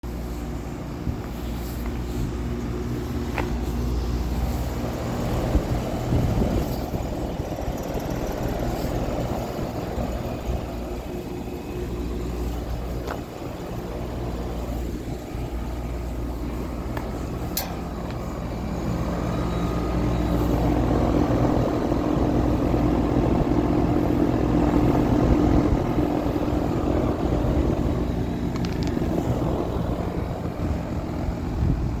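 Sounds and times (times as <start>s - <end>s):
compressor hum: 0.0s - 32.0s
fan whoosh: 0.0s - 32.0s.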